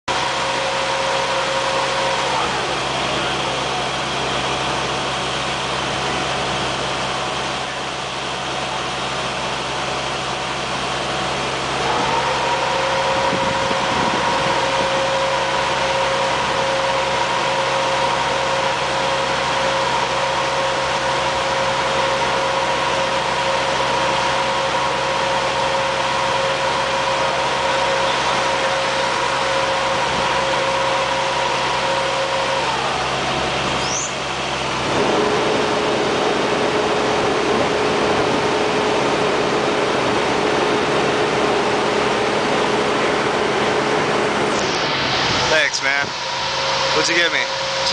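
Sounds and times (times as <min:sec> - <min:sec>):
high whine: 0:00.1 - 0:47.9
mechanical hum: 0:00.1 - 0:47.9.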